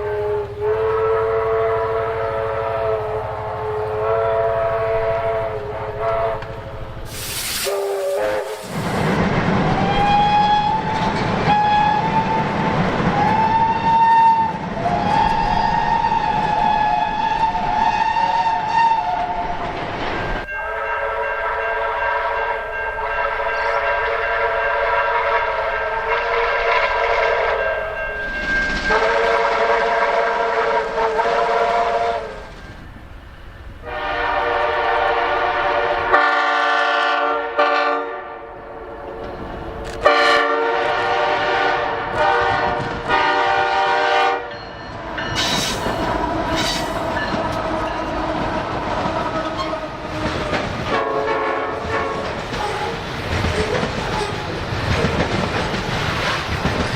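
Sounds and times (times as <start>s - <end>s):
train horn blasts: 0.0s - 8.7s, 9.8s - 19.6s, 20.5s - 28.1s, 28.7s - 32.7s, 33.8s - 39.2s, 40.0s - 44.6s, 45.3s - 53.0s
train rumble and wheel noise: 0.0s - 56.9s.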